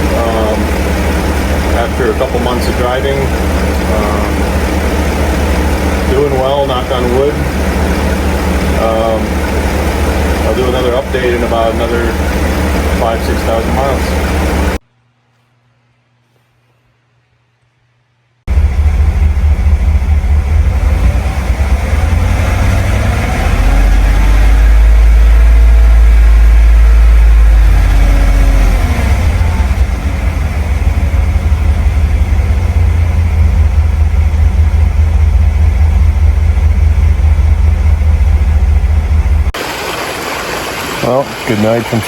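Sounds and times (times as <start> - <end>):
engine low rumble: 0.0 - 14.8, 18.5 - 39.6.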